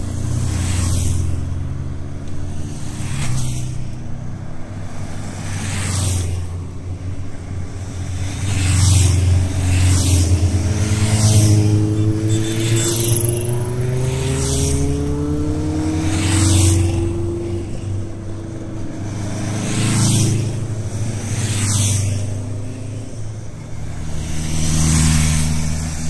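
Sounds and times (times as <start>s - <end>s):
motorcycle engines droning: 0.0s - 26.0s
motorcycles passing by: 0.0s - 26.0s.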